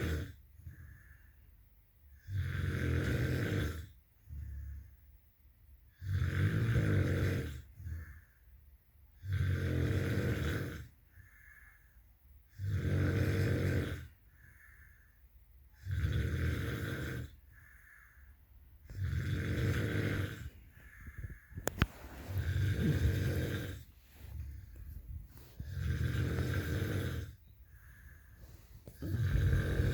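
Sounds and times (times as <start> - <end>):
person snoring heavily: 0.0 - 1.2, 2.2 - 4.9, 5.9 - 8.4, 9.2 - 11.9, 12.5 - 15.1, 15.7 - 29.9
quiet breaths: 0.0 - 29.9.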